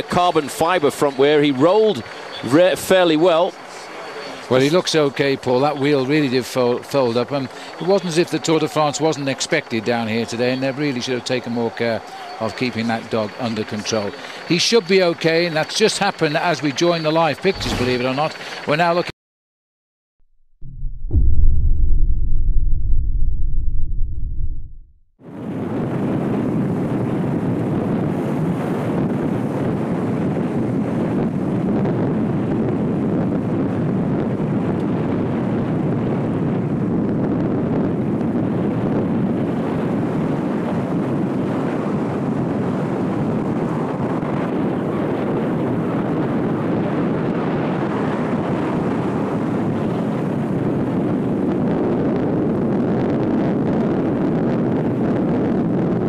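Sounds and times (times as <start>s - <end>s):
wind rushing on microphone: 0.0s - 19.1s, 21.1s - 56.0s.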